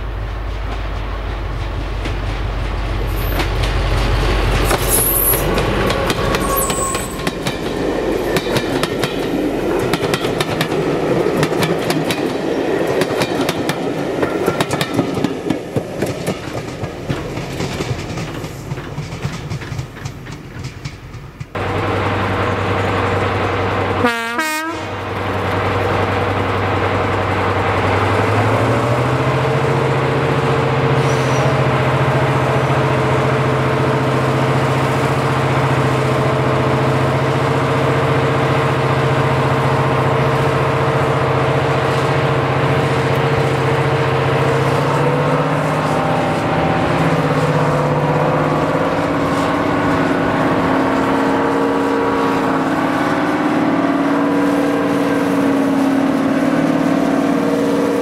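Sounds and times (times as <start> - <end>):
diesel locomotive engine droning: 0.0 - 58.0.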